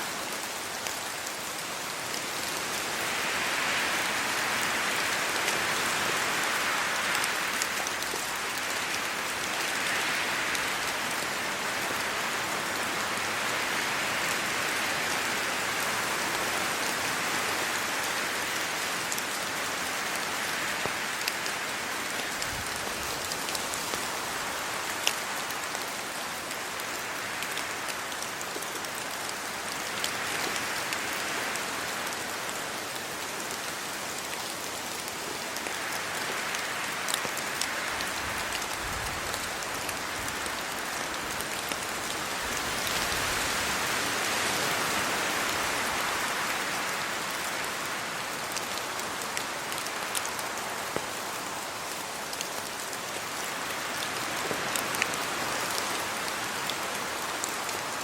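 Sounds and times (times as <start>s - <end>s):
rain on leaves: 0.0s - 58.0s
wind through trees: 0.0s - 58.0s
rain drops ticking: 0.1s - 58.0s.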